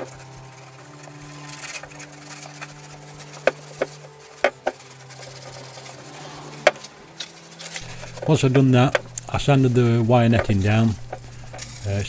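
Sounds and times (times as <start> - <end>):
cloth rag rubbing wood: 0.0 - 12.0
steady low hum: 0.0 - 12.0.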